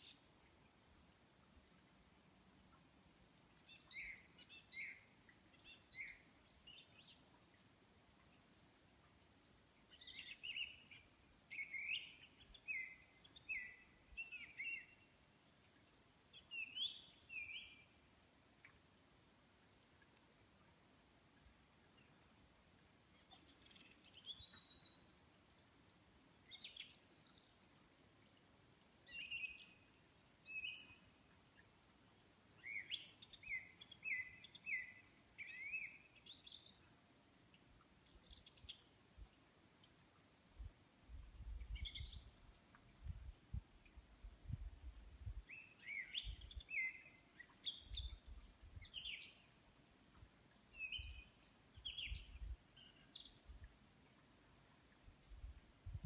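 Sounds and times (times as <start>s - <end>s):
songbirds singing: 0.0s - 9.2s, 9.8s - 18.8s, 20.9s - 25.8s, 26.4s - 31.9s, 32.5s - 56.0s.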